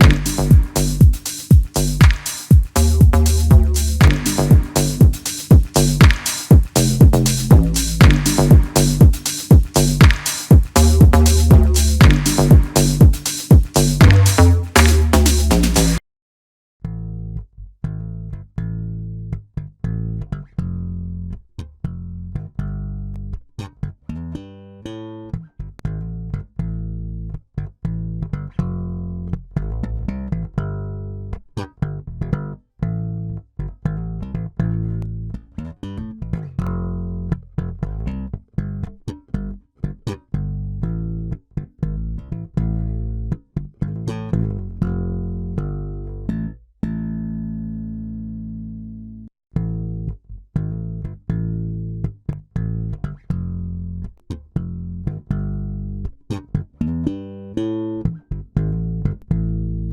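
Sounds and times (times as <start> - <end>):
electric bass guitar plucked notes: 0.0 - 1.2, 1.8 - 2.2, 2.8 - 16.0, 16.8 - 59.9.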